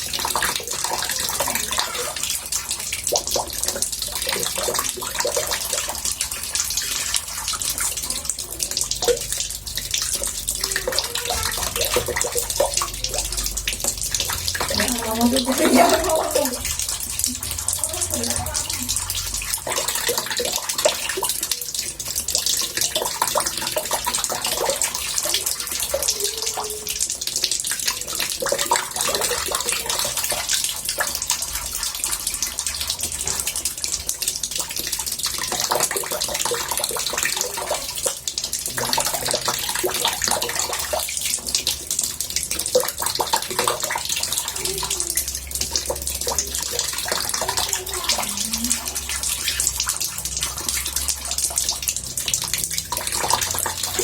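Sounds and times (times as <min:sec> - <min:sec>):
tap water running into bathtub: 0:00.0 - 0:54.0.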